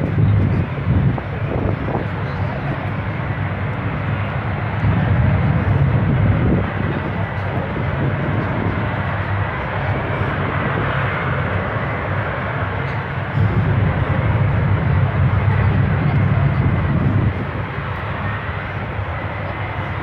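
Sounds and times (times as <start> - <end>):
deep jet engine noise: 0.0 - 20.0.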